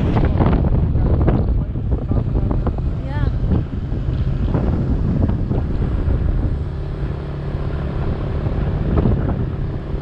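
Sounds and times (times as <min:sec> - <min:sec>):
road and wind noise: 0:00.0 - 0:10.0
vehicle engine running: 0:00.0 - 0:10.0.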